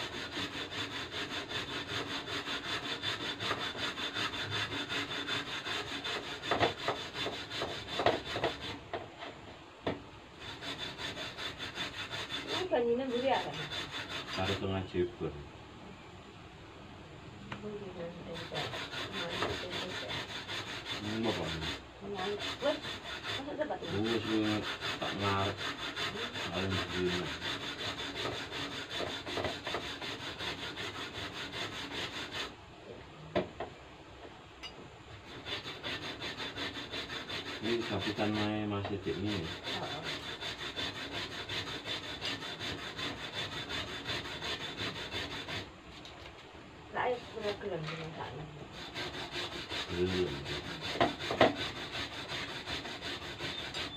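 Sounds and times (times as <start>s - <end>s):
rhythmic hand scraping on wood: 0.0s - 9.4s, 10.4s - 14.9s, 18.2s - 32.6s, 35.2s - 46.1s, 47.0s - 53.9s.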